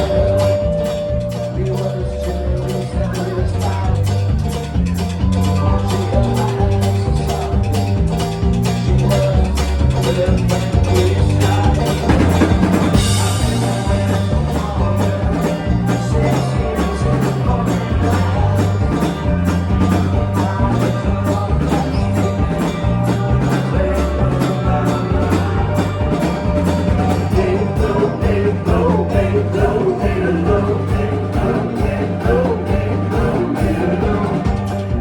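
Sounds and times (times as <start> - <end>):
country-rock band playing: 0.0 - 35.0
guitar: 0.0 - 35.0
melodic line: 0.0 - 35.0
percussion beat: 0.0 - 35.0
walking bass line: 0.0 - 35.0.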